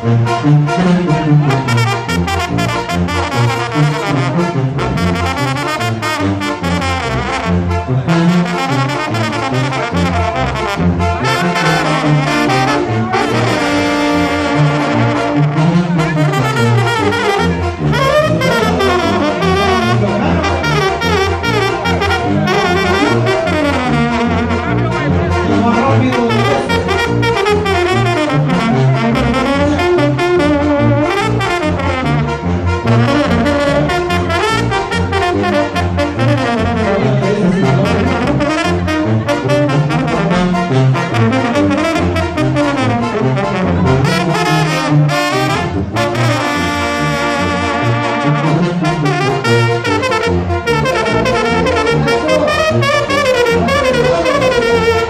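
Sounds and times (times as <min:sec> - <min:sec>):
trumpets and trombones melody: 0:00.0 - 0:55.0
tuba bass line: 0:00.0 - 0:55.0.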